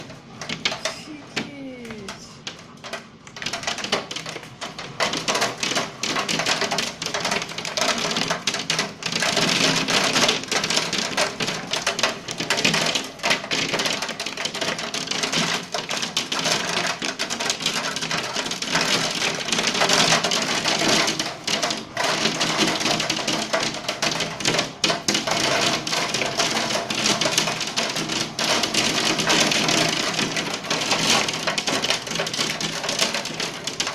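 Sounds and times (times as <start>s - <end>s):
hailstones striking hard surfaces: 0.0s - 33.9s.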